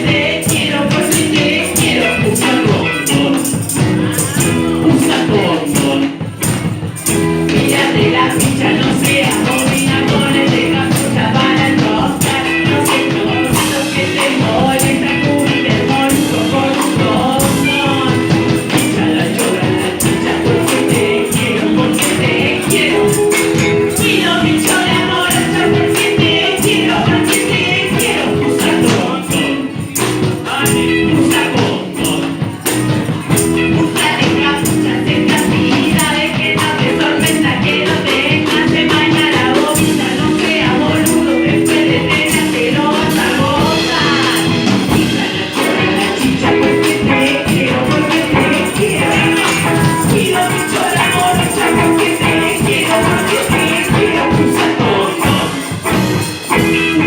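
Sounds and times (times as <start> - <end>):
band playing upbeat song: 0.0 - 57.0
person singing: 0.0 - 57.0
tambourine beat: 0.0 - 57.0.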